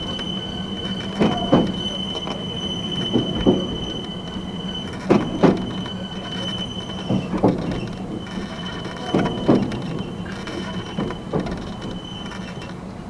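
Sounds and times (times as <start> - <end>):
train wheels knocking over rail joints: 0.0 - 12.7.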